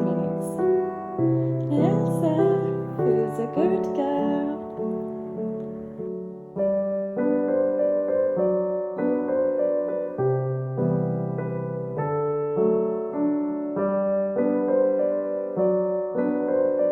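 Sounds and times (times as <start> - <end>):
soft piano chords: 0.0 - 16.9.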